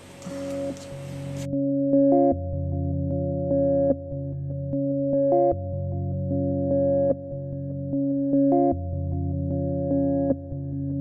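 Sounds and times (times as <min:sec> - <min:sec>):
soft synthesizer and electric piano: 0:00.0 - 0:11.0.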